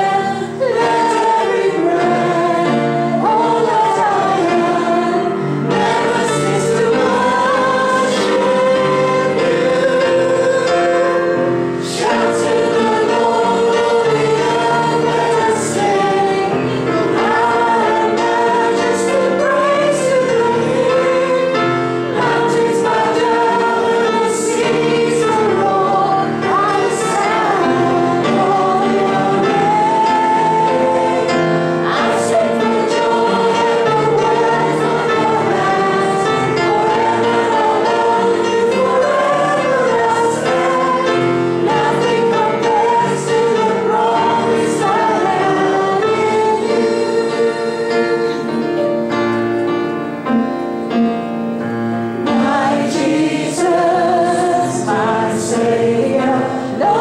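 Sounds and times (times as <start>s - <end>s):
congregation singing: 0.0s - 57.0s
keyboard accompaniment: 0.0s - 57.0s.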